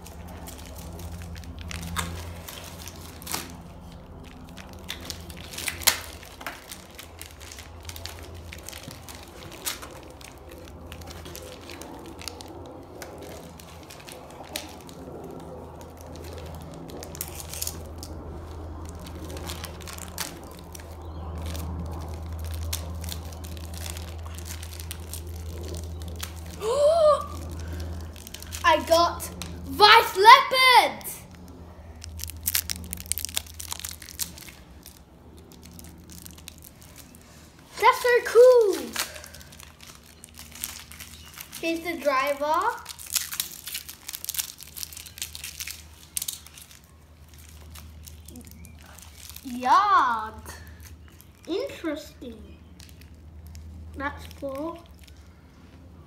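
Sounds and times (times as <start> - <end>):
foil packet crinkling and tearing: 0.0 - 55.9
steady low hum: 0.0 - 56.0.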